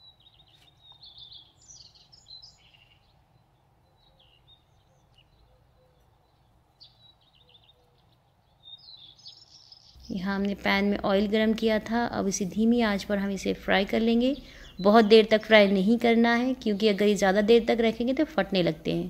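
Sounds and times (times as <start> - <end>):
faint bird chirps: 0.0 - 18.4.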